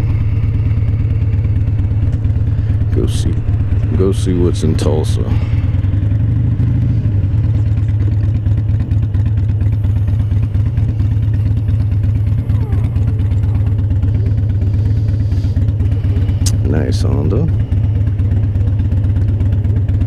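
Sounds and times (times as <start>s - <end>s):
motorcycle exhaust pulsing: 0.0s - 20.0s.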